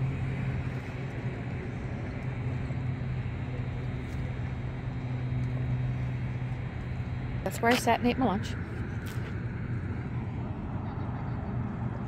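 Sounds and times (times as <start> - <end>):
outdoor noise: 0.0 - 12.0
vehicle engine idling: 0.0 - 12.0.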